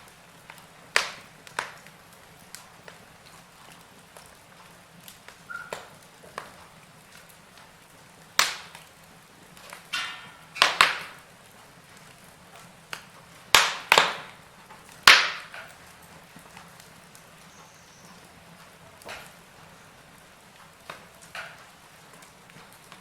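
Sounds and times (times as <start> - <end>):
burning logs popping: 0.0 - 23.0
wood fire crackling: 0.0 - 23.0.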